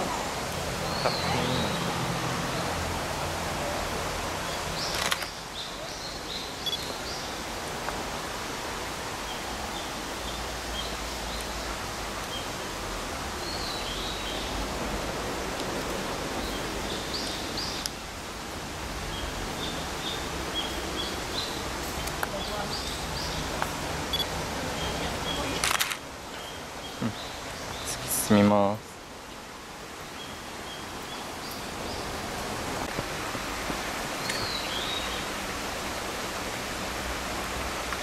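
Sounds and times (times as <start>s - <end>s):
stream rushing: 0.0s - 38.0s.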